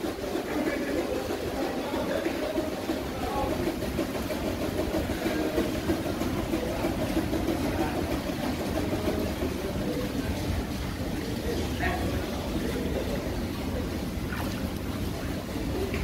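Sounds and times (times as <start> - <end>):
murmuring voices: 0.0 - 16.0.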